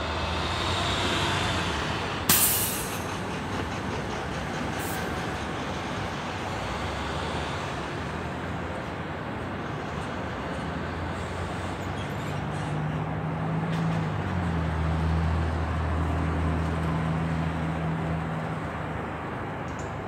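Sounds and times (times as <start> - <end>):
heavy vehicle engine hum: 0.0 - 20.0
street traffic: 0.0 - 20.0.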